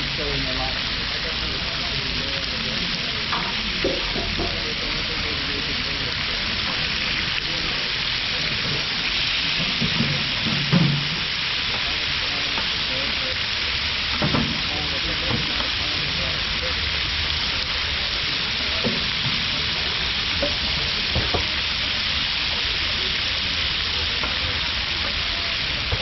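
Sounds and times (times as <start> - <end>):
chicken sizzling on griddle: 0.0 - 26.0.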